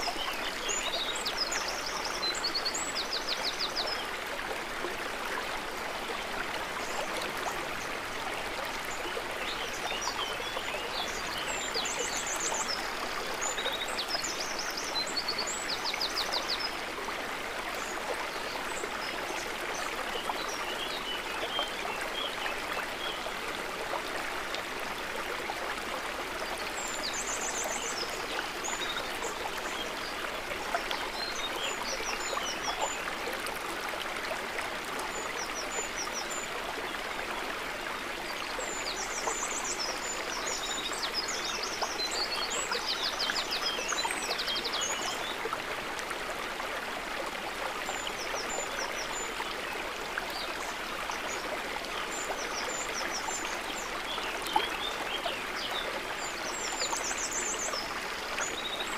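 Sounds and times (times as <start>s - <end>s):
water trickling and babbling: 0.0s - 58.9s.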